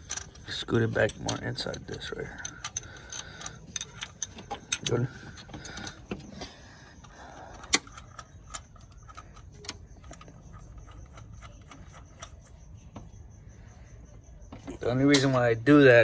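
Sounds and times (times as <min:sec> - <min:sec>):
metal tool clicks and clinks: 0:00.0 - 0:13.3, 0:14.6 - 0:15.8.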